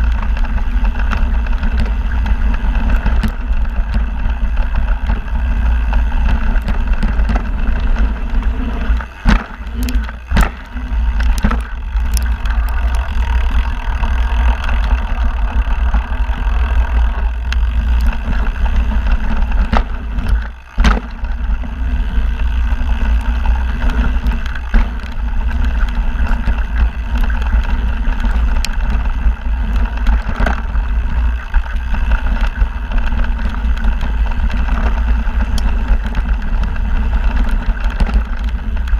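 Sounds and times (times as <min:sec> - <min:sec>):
bike knocking over bumps: 0:00.0 - 0:38.9
bike tyre and frame noise: 0:00.0 - 0:38.9
wind rumble on microphone: 0:00.0 - 0:38.9.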